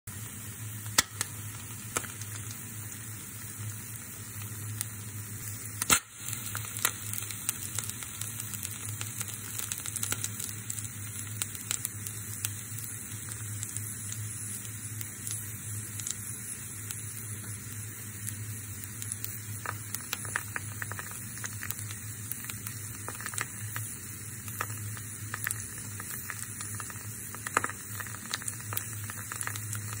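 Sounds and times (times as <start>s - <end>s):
egg sizzling in a pan: 0.1s - 30.0s
oil spitting crackles: 0.8s - 30.0s.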